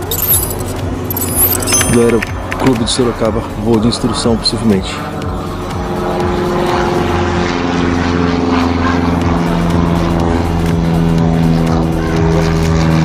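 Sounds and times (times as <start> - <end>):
small propeller plane droning: 0.0 - 13.0.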